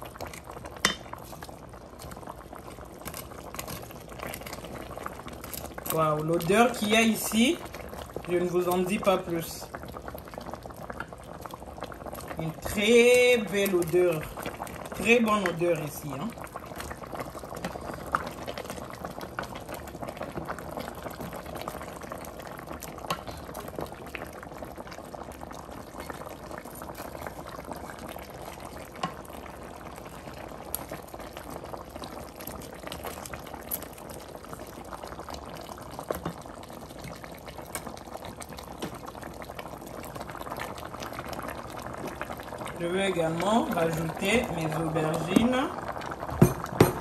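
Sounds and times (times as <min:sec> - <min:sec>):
sauce bubbling in a pot: 0:00.0 - 0:47.0.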